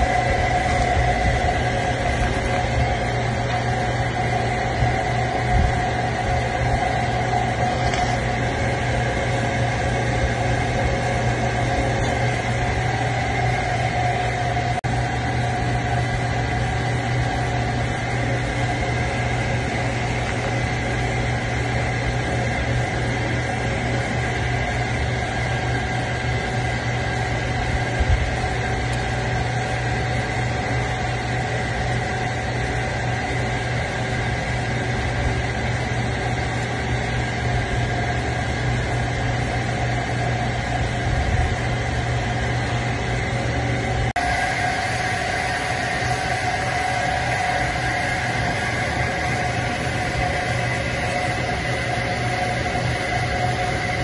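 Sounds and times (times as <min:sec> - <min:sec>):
steady machine drone: 0:00.0 - 0:54.0.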